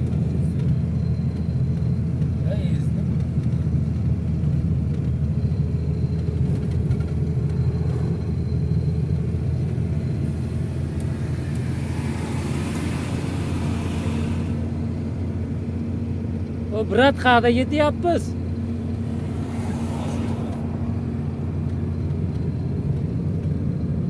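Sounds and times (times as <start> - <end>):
road noise: 0.0 - 24.0
vehicle engine drone: 0.0 - 24.0.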